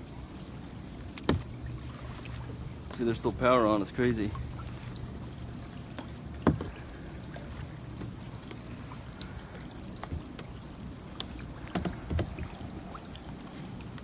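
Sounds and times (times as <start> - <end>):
low steady rumble: 0.0 - 14.0
paddle splashing and knocking: 0.0 - 14.0.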